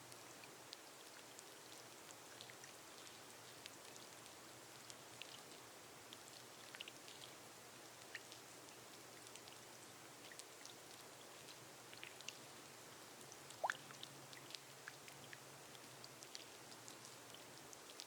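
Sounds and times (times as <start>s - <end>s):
rain on a glass roof: 0.0s - 18.0s.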